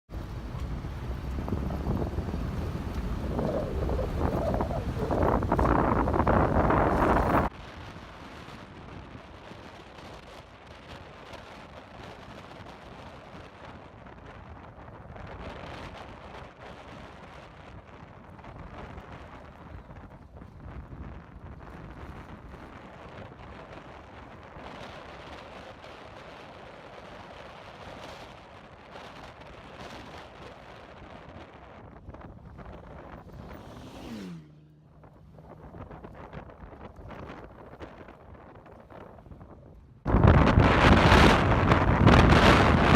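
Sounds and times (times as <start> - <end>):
wind buffeting microphone: 0.1 - 42.9.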